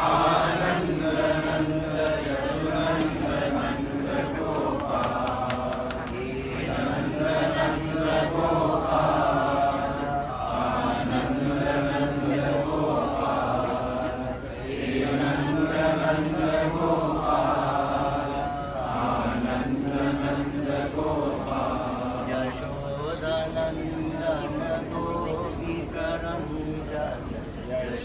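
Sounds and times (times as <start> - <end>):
group of voices chanting: 0.0 - 22.9.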